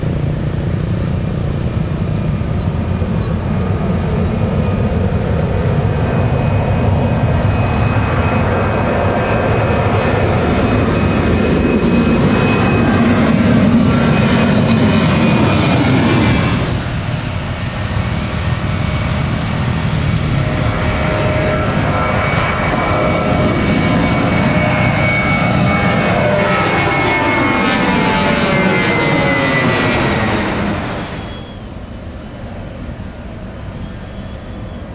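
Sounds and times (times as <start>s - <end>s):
airliner engines roaring: 0.0s - 34.9s.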